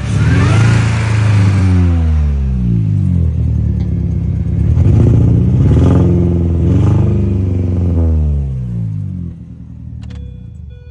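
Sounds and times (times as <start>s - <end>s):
engine misfiring and revving: 0.0s - 10.1s.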